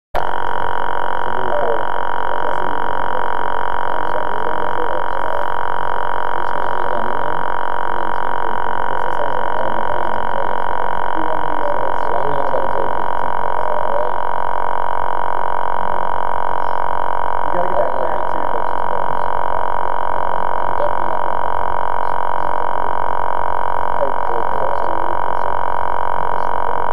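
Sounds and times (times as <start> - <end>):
faint voices: 1.2 - 14.3, 16.4 - 23.0, 23.8 - 26.9.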